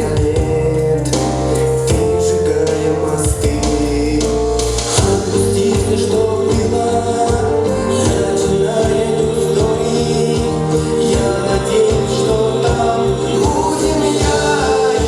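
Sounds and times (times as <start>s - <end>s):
pop song: 0.0s - 15.0s.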